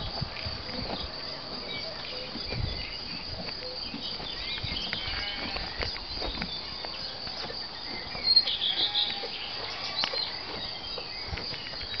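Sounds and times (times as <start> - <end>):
birds chirping: 0.0 - 12.0
crickets chirring: 0.0 - 12.0
horses munching hay: 0.0 - 12.0.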